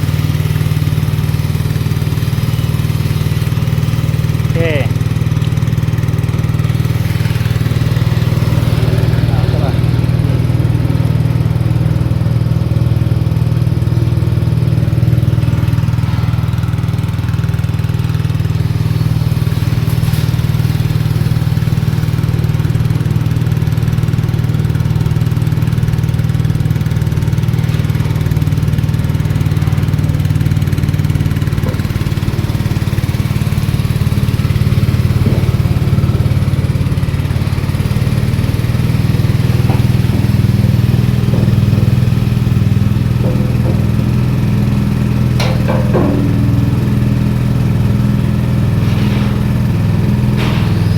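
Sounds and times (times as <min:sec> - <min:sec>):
press engine humming: 0:00.0 - 0:50.9.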